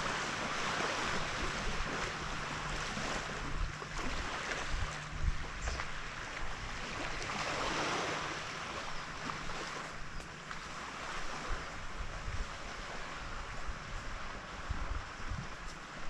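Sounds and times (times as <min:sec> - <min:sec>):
small waves washing up beach: 0:00.0 - 0:16.0
wind rumbling on microphone: 0:00.0 - 0:16.0.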